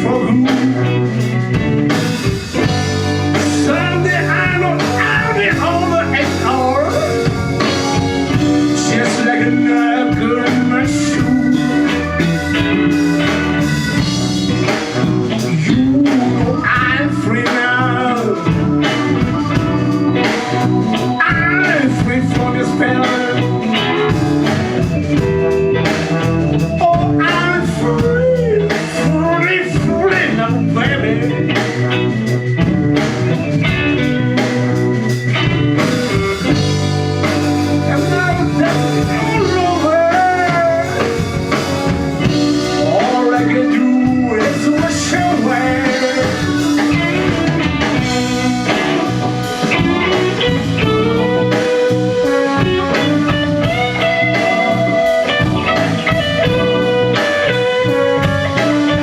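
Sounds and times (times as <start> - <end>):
blues band playing: 0.0 - 59.0
electric guitar bending notes: 0.0 - 59.0.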